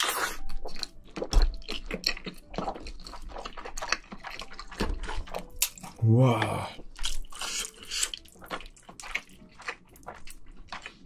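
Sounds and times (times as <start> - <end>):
wet chewing with smacking: 0.0 - 6.0, 6.8 - 11.0.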